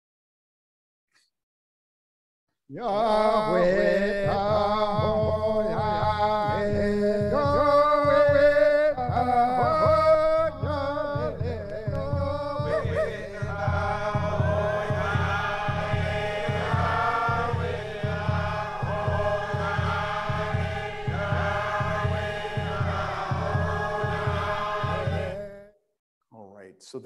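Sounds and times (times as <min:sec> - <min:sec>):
men chanting: 0:02.7 - 0:25.7
steady low drum beat: 0:03.0 - 0:25.6.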